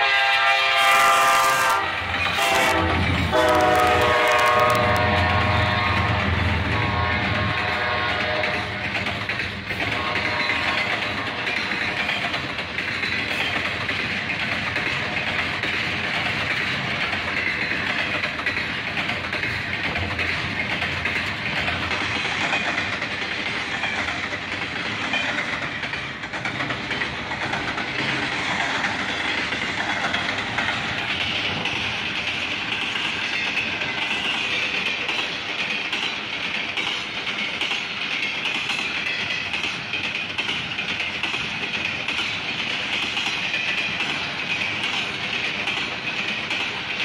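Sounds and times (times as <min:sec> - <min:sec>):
freight train wheels clattering: 0:00.0 - 0:47.0.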